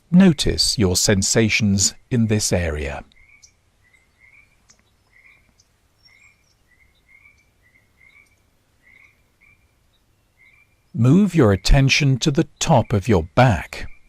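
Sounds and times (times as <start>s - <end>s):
chirping animal calls: 1.9s - 14.0s.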